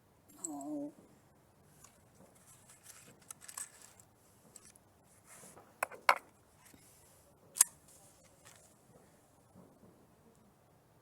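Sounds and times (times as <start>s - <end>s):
rustling and handling noise: 0.3s - 9.9s.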